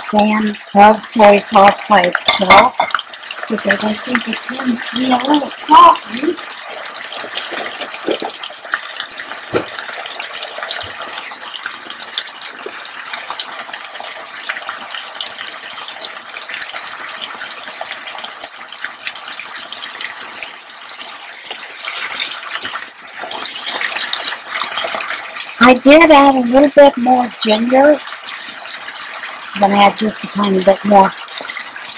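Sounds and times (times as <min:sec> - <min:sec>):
stir-fry sizzling: 0:00.0 - 0:31.9.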